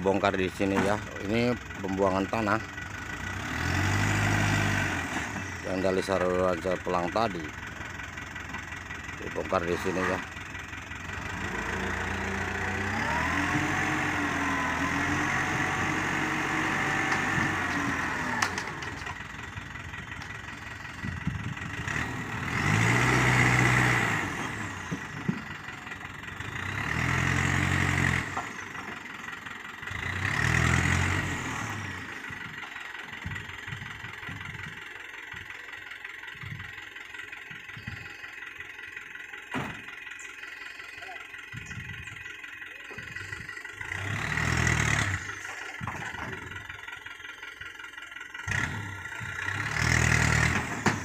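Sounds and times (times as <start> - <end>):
truck engine revving: 0.0 - 35.7, 37.4 - 51.0.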